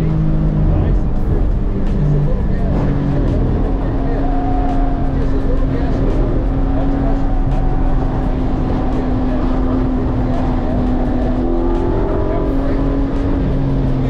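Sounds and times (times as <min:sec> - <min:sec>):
sports car engine running: 0:00.0 - 0:14.0.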